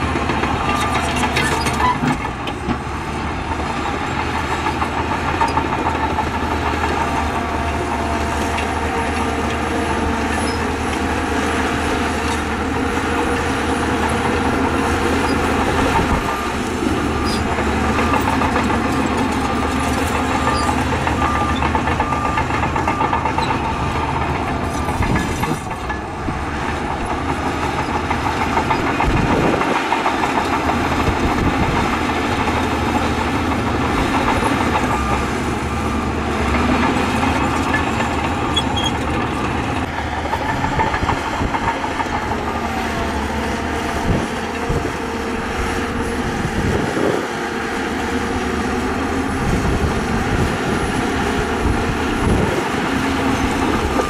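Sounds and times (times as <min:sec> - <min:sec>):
bulldozer diesel engine running: 0:00.0 - 0:54.0
steel tracks clanking: 0:00.0 - 0:54.0.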